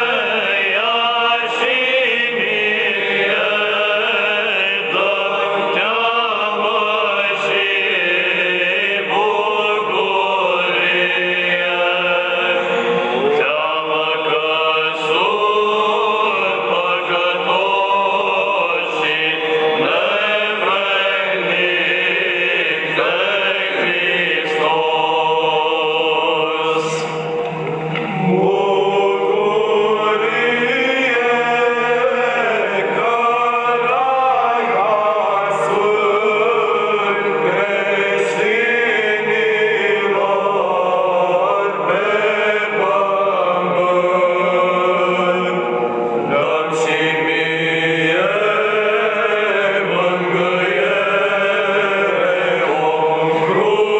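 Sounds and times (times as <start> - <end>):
choir chanting a hymn: 0.0 - 53.9.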